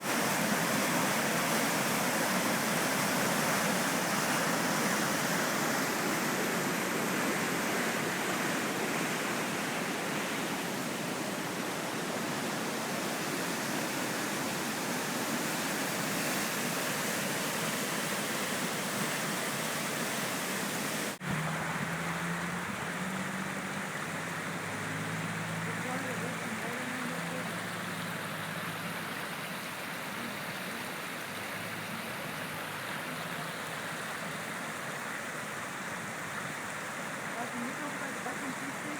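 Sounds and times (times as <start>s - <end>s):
river floodwater rushing: 0.0s - 38.9s.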